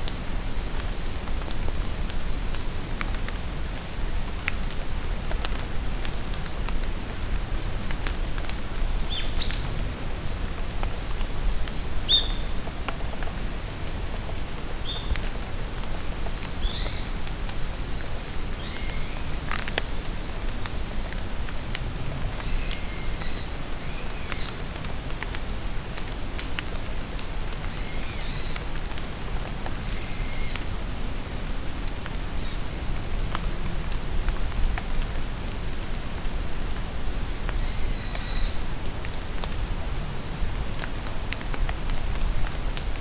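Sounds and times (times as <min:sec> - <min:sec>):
raindrops pattering: 0:00.0 - 0:43.0
steady rain in a forest: 0:00.0 - 0:43.0.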